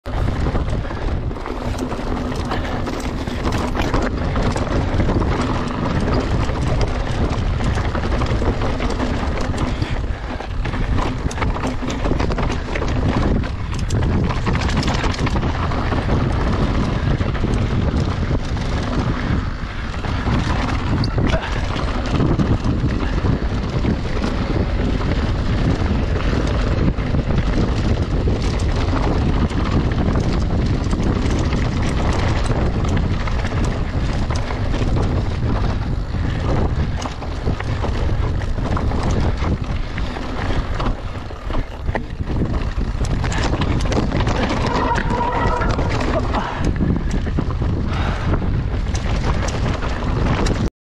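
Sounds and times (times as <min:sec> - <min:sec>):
bike rattling: 0:00.0 - 0:50.7
wind buffeting microphone: 0:00.0 - 0:50.7.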